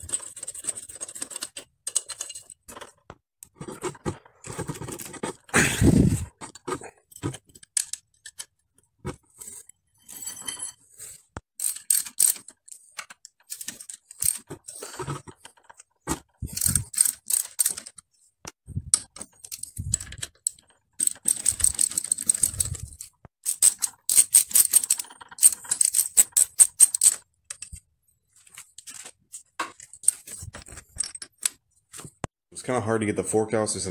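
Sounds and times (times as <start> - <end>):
metal tools clinking and knocking: 0.0 - 5.5, 9.1 - 18.0, 18.8 - 27.8, 28.4 - 32.1.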